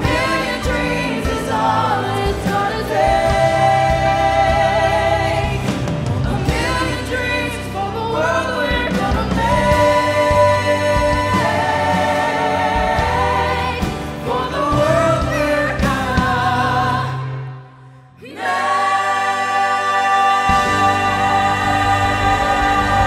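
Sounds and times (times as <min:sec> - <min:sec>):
live band playing: 0:00.0 - 0:17.2, 0:20.4 - 0:23.0
singers and choir singing: 0:00.0 - 0:23.0.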